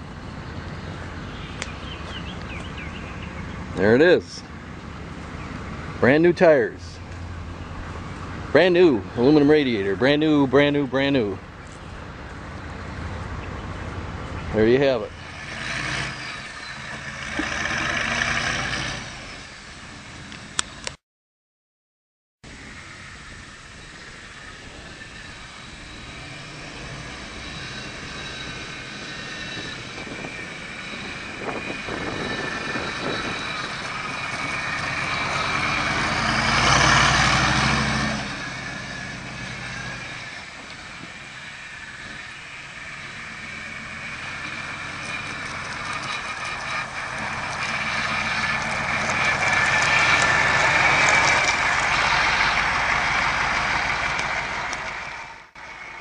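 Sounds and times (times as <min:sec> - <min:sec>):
diesel vehicle driving past: 0:00.0 - 0:20.9, 0:22.5 - 0:56.0.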